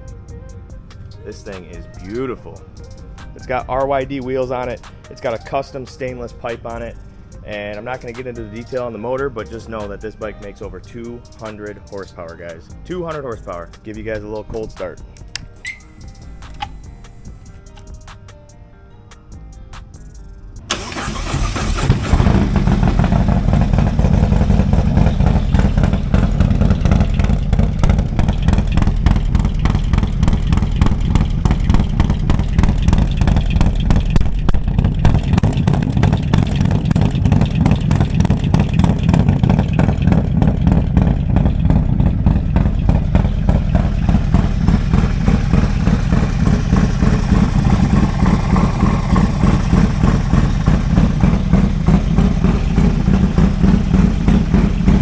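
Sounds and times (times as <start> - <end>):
motorcycle engine idling: 0.0 - 18.5, 19.2 - 55.0.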